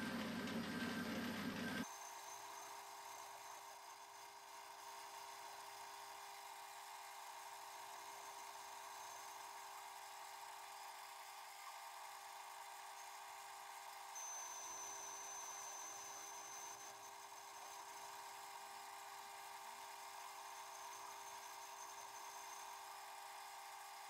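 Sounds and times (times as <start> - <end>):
lathe motor whine: 0.0 - 24.0.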